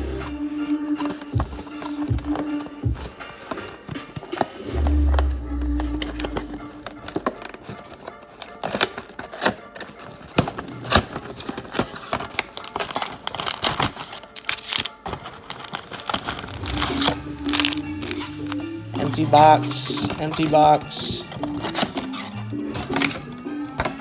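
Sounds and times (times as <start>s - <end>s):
background music: 0.0s - 24.0s
packaging crinkling and rustling: 0.0s - 24.0s.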